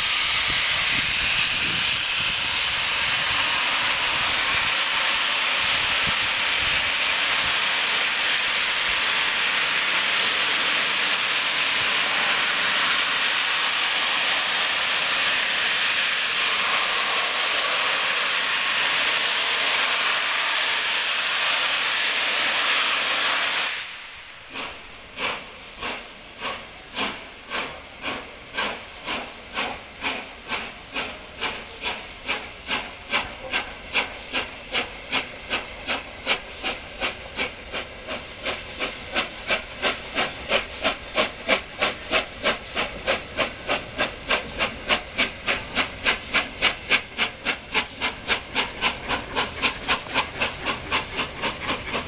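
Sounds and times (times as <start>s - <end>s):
loud hiss of steam: 0.0s - 52.0s
steam locomotive exhaust beats: 0.0s - 52.0s.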